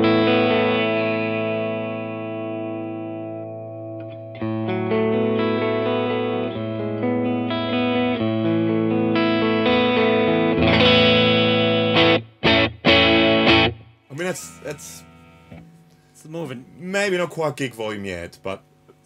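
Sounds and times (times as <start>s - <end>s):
clean electric guitar chords: 0.0s - 16.1s.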